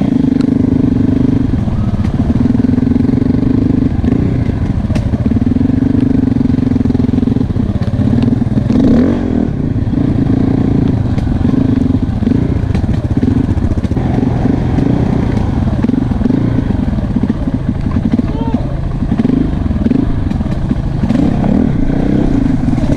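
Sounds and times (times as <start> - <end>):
clatter: 0.0 - 22.9
motorcycle engine revving: 0.0 - 22.9.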